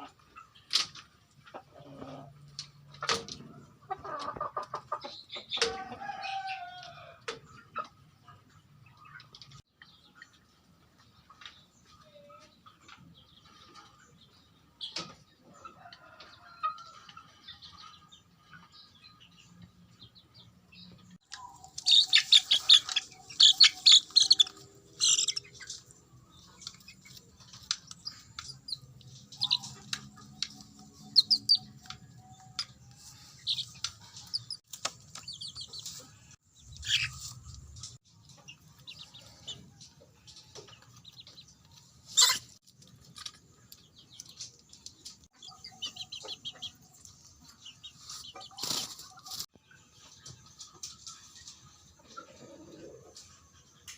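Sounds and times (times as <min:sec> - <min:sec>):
chickens chirping and peeping: 0:00.0 - 0:53.9.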